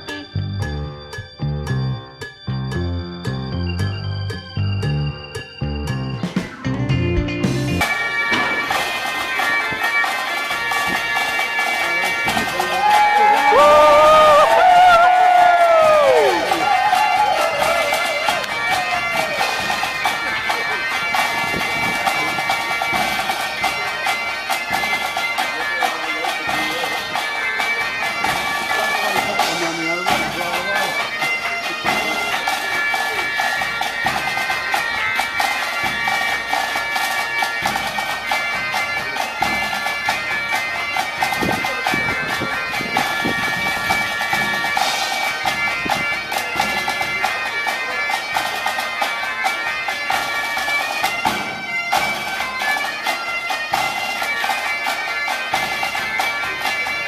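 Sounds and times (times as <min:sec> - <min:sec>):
bagpipes playing a tune: 0:00.0 - 0:57.0.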